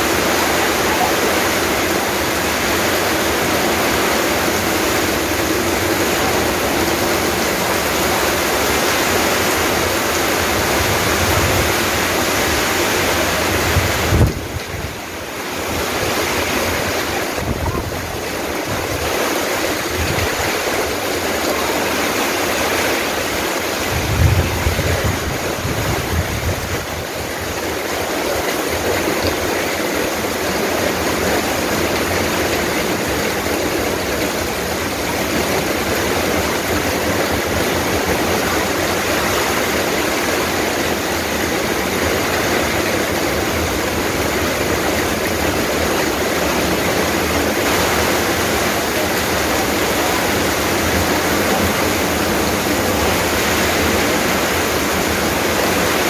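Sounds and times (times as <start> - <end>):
heavy rain on tiles: 0.0 - 56.0.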